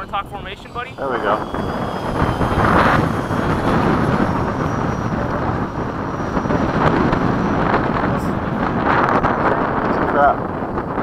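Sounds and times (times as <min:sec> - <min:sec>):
rc jet whine: 0:00.0 - 0:11.0
wind rumble on microphone: 0:00.0 - 0:11.0.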